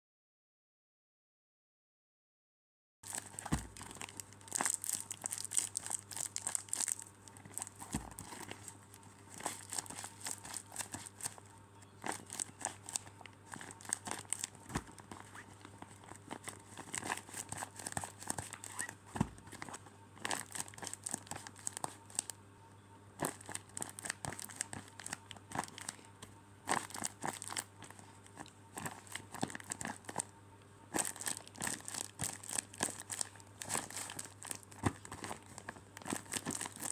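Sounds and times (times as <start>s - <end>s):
squishies crinkling and crackling: 3.0s - 22.4s, 23.1s - 36.9s.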